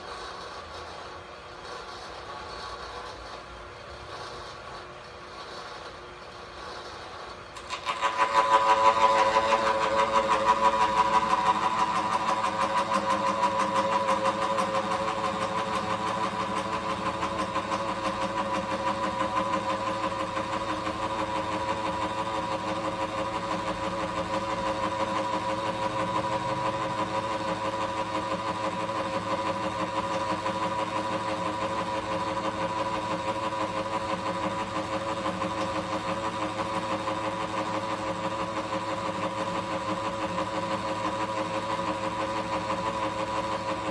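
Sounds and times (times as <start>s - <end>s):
milling machine whining: 6.7s - 43.9s.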